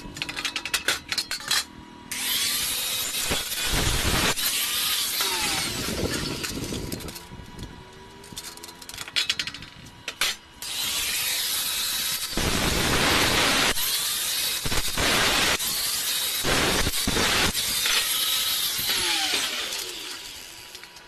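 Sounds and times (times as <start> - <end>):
angle grinder grinding steel: 2.1 - 21.0.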